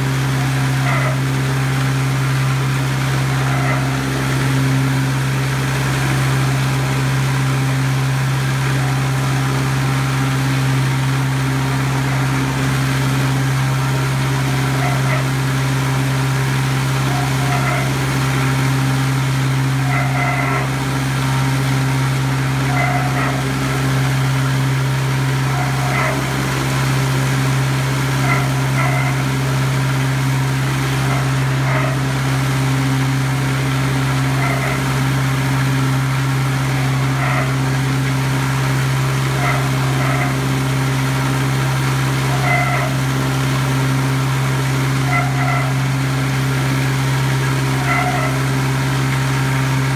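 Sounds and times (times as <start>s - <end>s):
bowl cutter humming: 0.0s - 49.9s.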